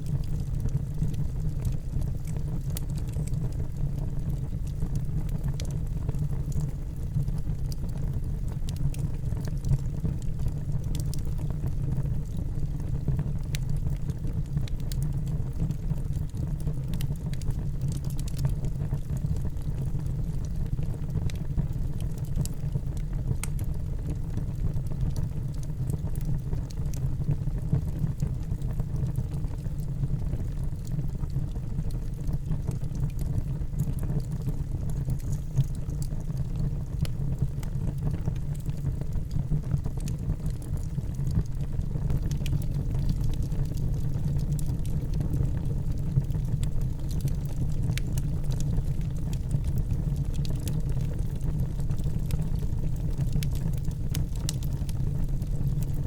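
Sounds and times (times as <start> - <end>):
fire crackles and pops: 0.0 - 56.0
fire rumbling in fireplace: 0.0 - 56.0.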